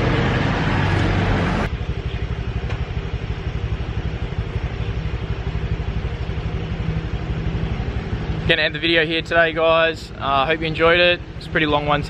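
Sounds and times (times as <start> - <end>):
street noise: 0.0 - 12.0
small engine idling: 1.7 - 12.0.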